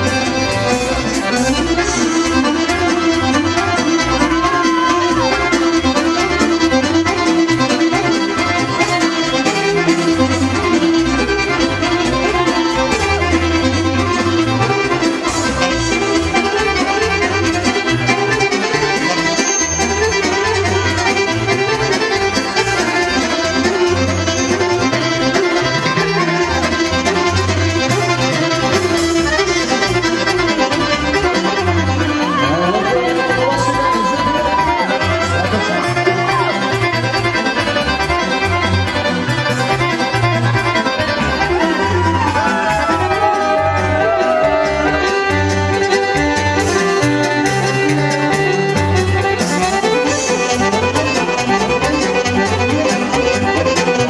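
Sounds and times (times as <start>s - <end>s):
folk dance music: 0.0s - 54.0s
reed instruments melody: 0.0s - 54.0s.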